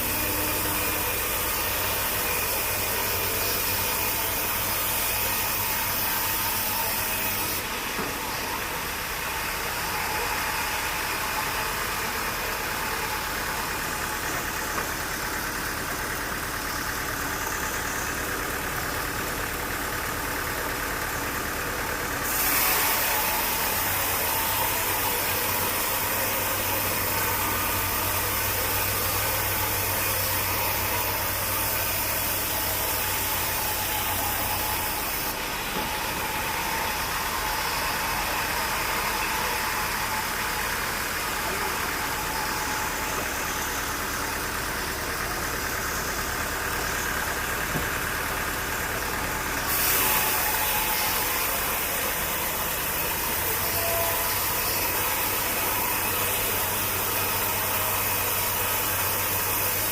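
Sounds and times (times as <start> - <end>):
sawmill machinery engine drone: 0.0 - 59.9.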